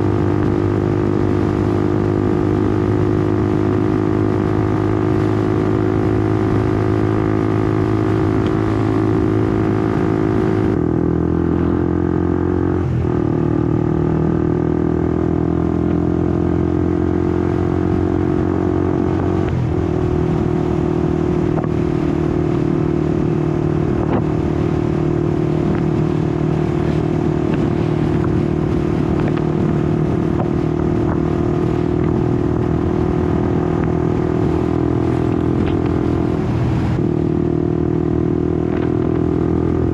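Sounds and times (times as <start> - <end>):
wind noise: 0.0 - 11.8, 12.5 - 39.9
motorcycle engine running: 0.0 - 39.9.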